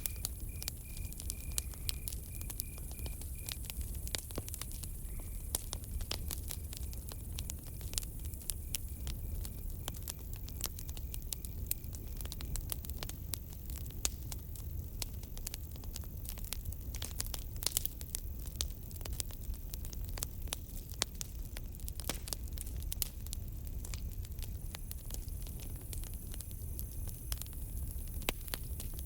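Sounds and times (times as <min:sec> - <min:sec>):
campfire crackling: 0:00.0 - 0:29.0
low rumble of flames: 0:00.0 - 0:29.0.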